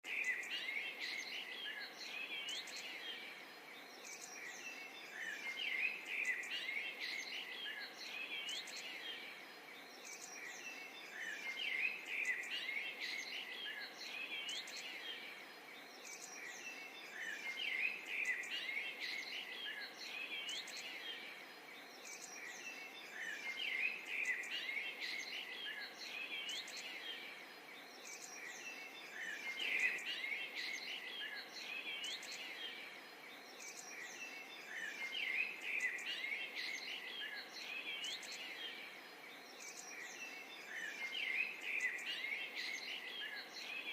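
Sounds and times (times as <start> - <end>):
background hiss: 0.0 - 43.9
small birds chirping: 0.0 - 43.9.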